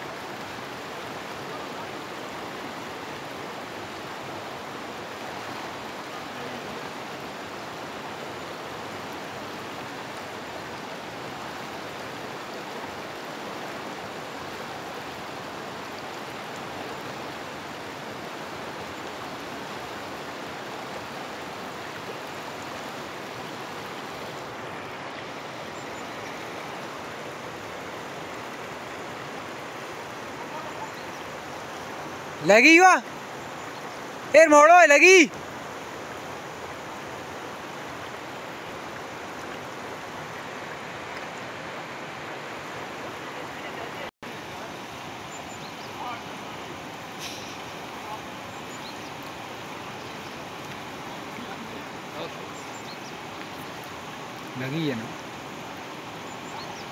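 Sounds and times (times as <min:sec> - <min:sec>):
river rushing: 0:00.0 - 0:56.9.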